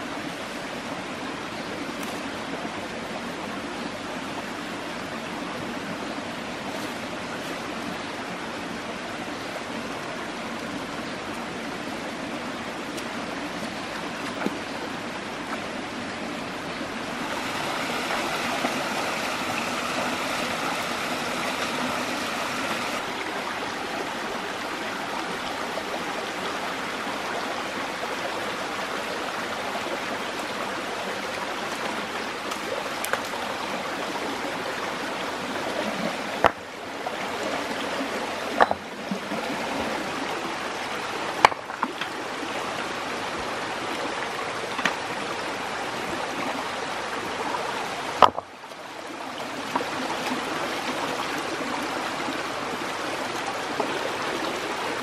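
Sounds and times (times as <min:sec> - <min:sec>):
water rushing in rocky stream: 0:04.0 - 0:55.0.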